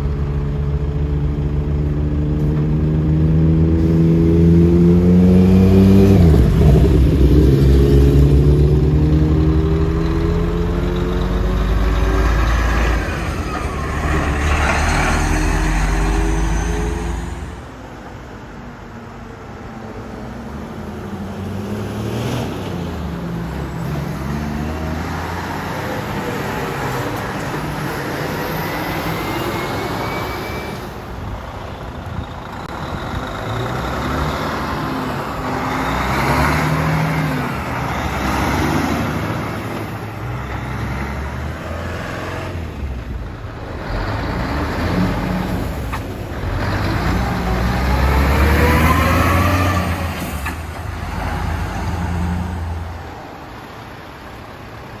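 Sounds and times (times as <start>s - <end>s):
diesel trucks driving past: 0.0s - 55.0s.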